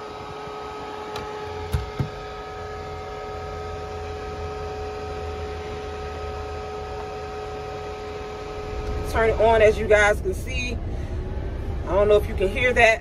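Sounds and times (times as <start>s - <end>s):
electrical hum: 0.0s - 13.0s
low drone: 0.0s - 13.0s.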